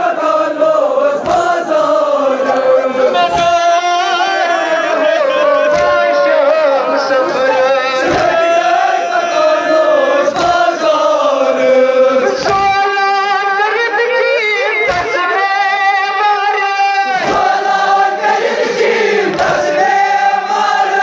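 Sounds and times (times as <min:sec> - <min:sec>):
group chanting mourning lament: 0:00.0 - 0:21.0.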